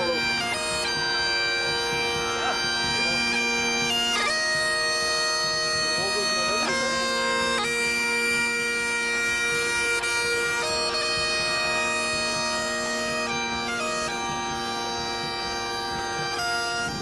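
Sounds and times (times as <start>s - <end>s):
bagpipe and bombarde playing tune: 0.0s - 17.0s.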